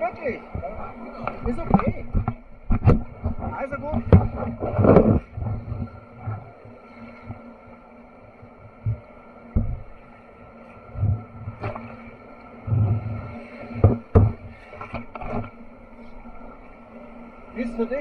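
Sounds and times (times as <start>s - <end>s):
water thumping against hull: 0.0s - 7.5s, 8.4s - 10.2s, 10.8s - 16.7s.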